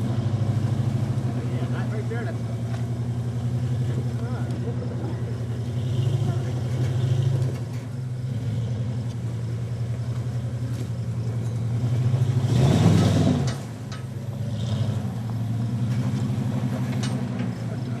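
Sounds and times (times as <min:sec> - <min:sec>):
pickup engine running: 0:00.0 - 0:18.0.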